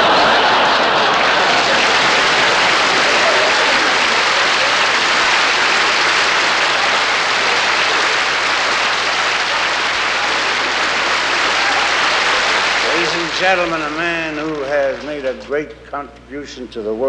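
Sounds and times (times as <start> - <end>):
audience applause: 0.0 - 15.5.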